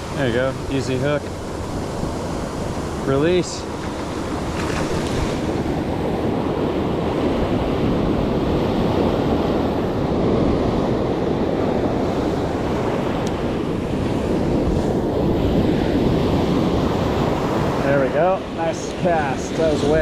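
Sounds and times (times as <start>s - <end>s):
ocean surf breaking on beach: 0.0s - 20.0s
wind buffeting microphone: 0.0s - 20.0s.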